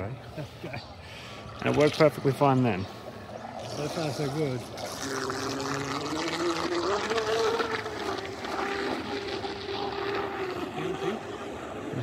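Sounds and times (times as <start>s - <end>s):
boat electric motor whining: 1.4s - 12.0s.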